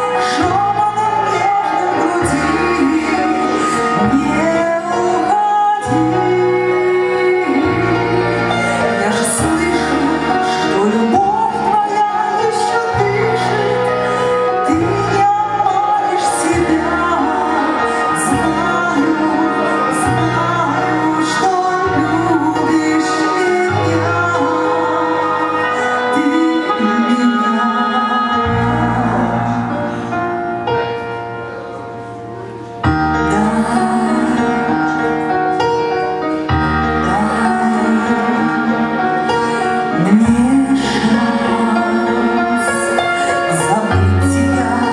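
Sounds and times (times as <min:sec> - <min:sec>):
woman singing into microphone: 0:00.0 - 0:30.2, 0:32.9 - 0:35.4, 0:36.5 - 0:44.9
instrumental accompaniment: 0:00.0 - 0:44.9
piano-led backing track: 0:00.0 - 0:44.9.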